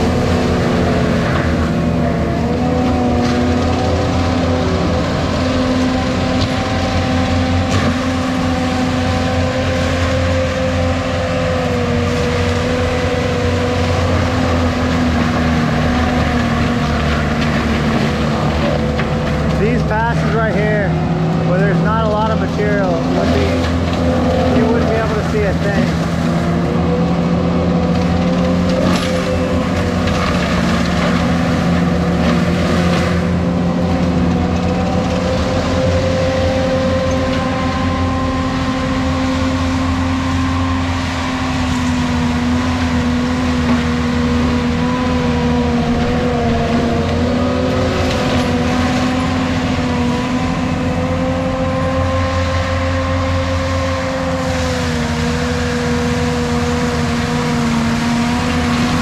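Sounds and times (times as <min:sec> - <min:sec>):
track loader mulcher running: 0:00.0 - 0:59.0.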